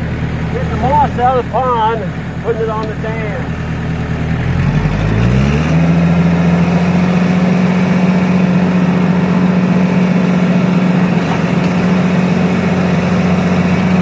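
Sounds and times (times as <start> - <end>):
tractor engine revving: 0.0 - 14.0.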